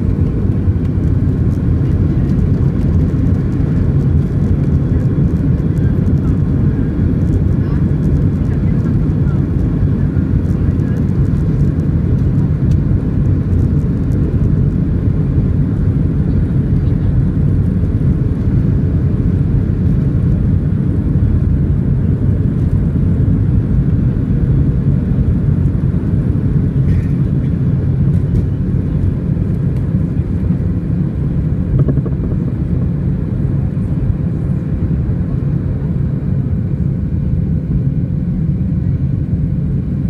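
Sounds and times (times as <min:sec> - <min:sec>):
jet engines at takeoff power: 0:00.0 - 0:40.0
wheels rumbling on runway: 0:00.0 - 0:40.0.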